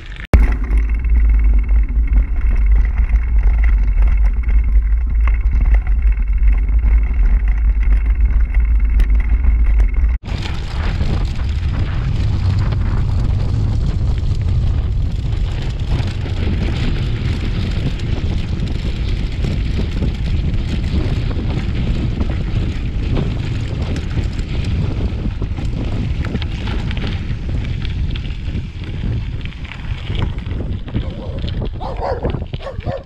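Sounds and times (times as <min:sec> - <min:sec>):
bike tyre crackle and rattle: 0:00.0 - 0:33.0
wind rumble on microphone: 0:00.0 - 0:33.0.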